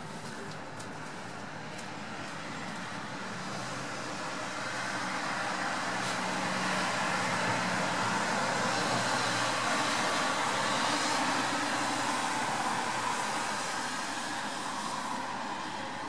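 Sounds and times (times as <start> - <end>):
tyres hissing on wet road: 2.4 - 16.0.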